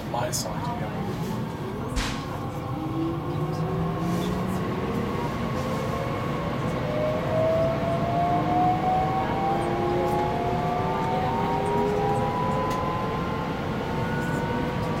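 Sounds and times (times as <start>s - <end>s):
train traction motors whining: 1.0s - 15.0s.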